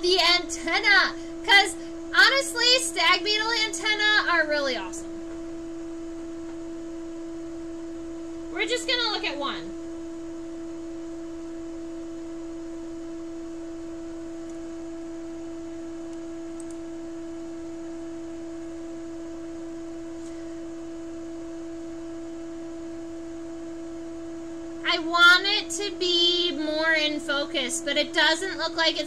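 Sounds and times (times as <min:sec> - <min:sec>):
steady electronic hum: 0:00.0 - 0:29.0.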